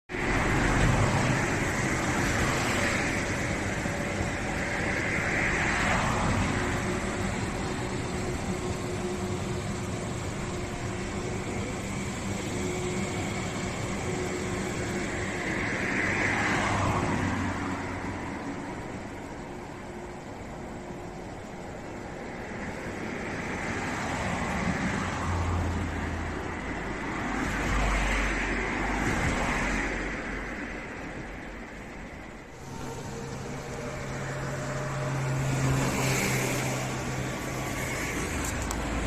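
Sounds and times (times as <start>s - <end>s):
train wheels rolling on rails: 0.1s - 39.0s.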